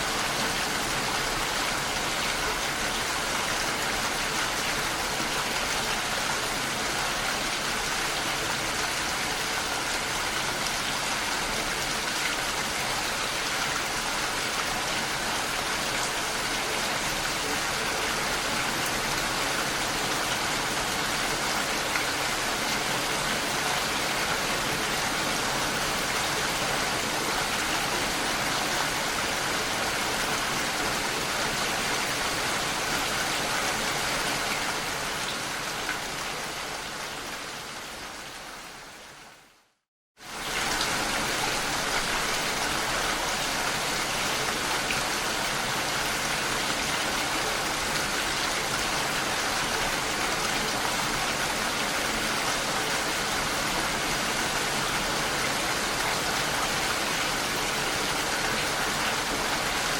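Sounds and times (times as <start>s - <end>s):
heavy rain falling: 0.0s - 39.0s, 40.2s - 59.9s.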